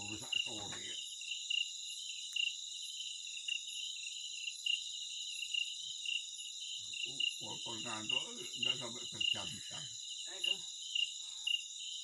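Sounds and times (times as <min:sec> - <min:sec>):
chorus of night insects: 0:00.0 - 0:12.0.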